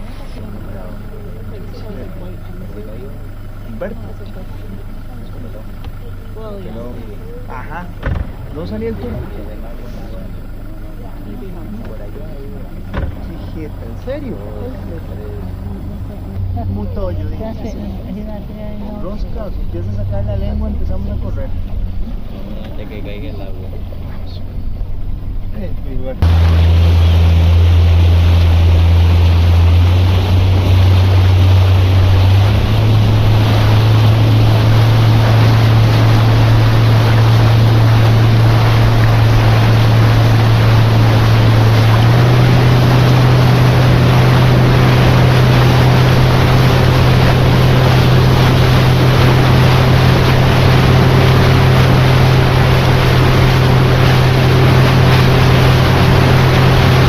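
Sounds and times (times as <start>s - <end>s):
wind and water rushing: 0.0s - 4.1s, 7.0s - 10.2s, 11.3s - 25.4s, 26.2s - 57.0s
boat motor running: 0.0s - 57.0s.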